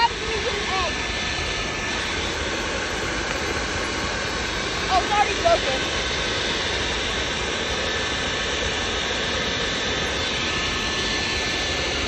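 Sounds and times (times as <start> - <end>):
air roaring through forge pipe: 0.0 - 12.0.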